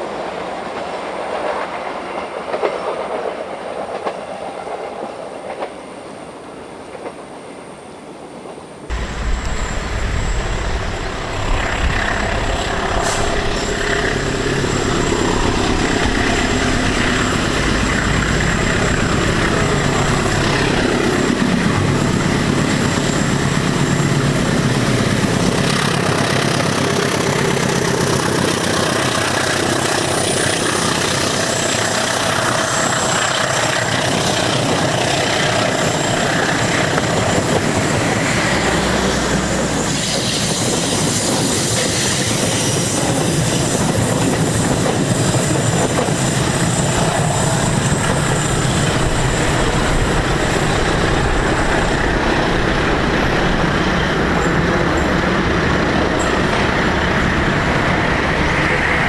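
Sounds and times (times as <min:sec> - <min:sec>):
passing train carriages: 0:00.0 - 0:59.0
diesel locomotive engine rumble: 0:08.9 - 0:59.0.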